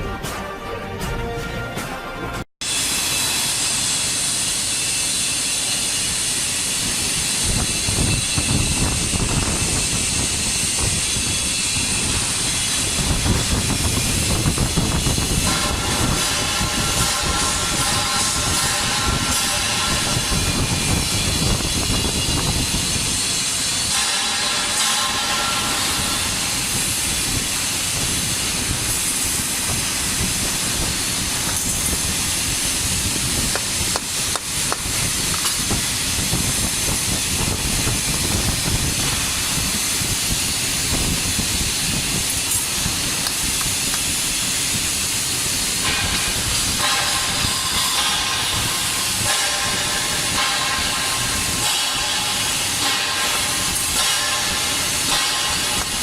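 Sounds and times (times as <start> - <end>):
welding arc hiss and crackle: 2.6 - 56.0.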